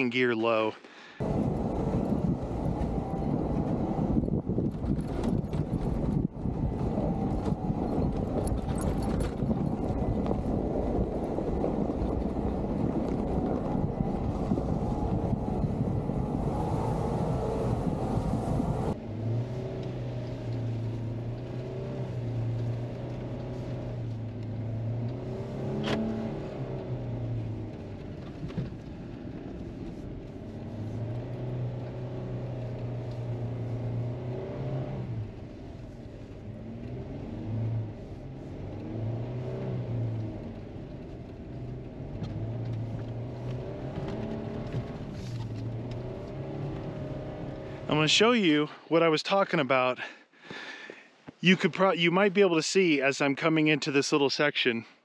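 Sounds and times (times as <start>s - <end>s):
engine drone inside cab: 1.0s - 48.2s
vehicle driving through snow: 1.1s - 48.8s.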